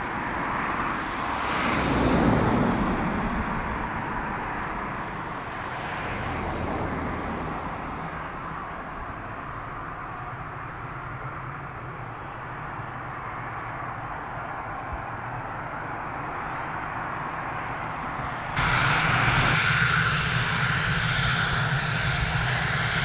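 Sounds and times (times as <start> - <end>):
plane engine passing: 0.0 - 23.0.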